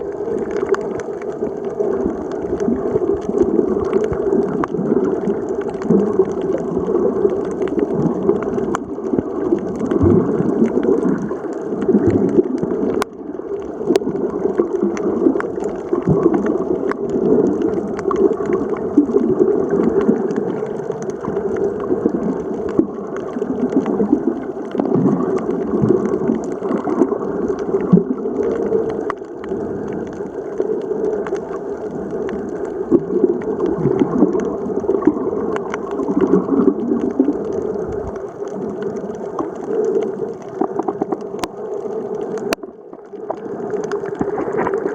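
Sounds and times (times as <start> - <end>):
small underwater clicks: 0.0 - 44.9
underwater gurgling water: 0.0 - 44.9.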